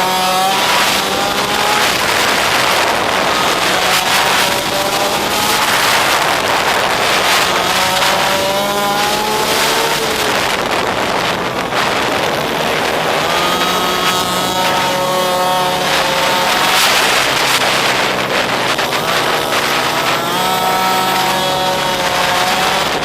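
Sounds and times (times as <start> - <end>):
motorbike engine revving: 0.0 - 23.0.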